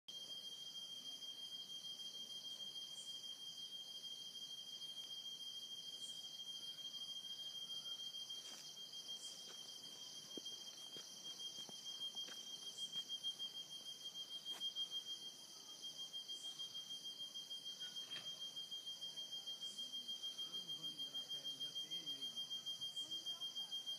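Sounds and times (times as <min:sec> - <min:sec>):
cicada singing: 0:00.1 - 0:23.9.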